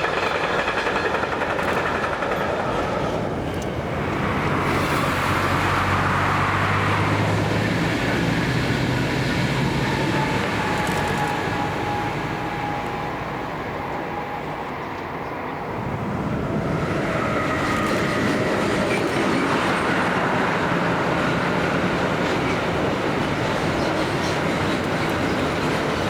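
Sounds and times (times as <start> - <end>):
train running on track: 0.0 - 26.0.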